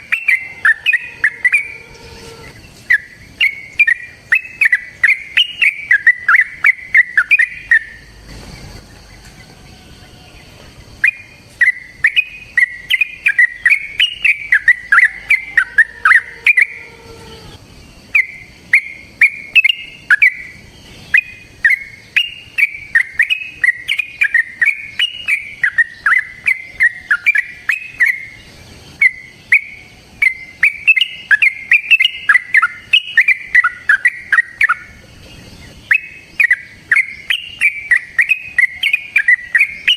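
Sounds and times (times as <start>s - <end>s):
bird singing chirping whistles: 0.0s - 8.2s, 8.9s - 39.9s.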